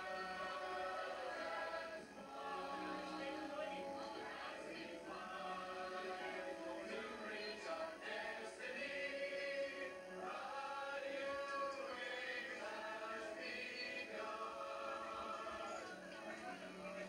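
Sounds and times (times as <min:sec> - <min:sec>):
group singing over music: 0:00.0 - 0:17.0.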